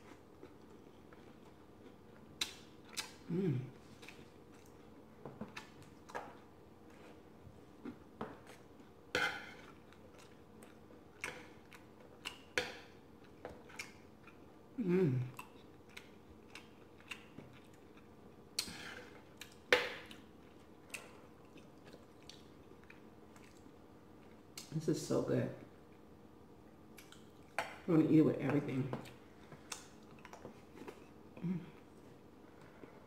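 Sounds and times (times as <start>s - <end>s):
chewing crispy food: 0.0s - 24.8s, 26.9s - 27.9s, 29.0s - 33.0s.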